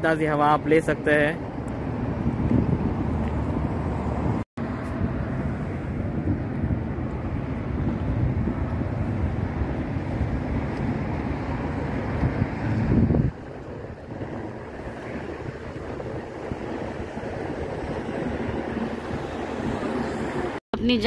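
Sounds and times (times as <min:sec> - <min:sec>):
wind on microphone: 0:01.0 - 0:21.0.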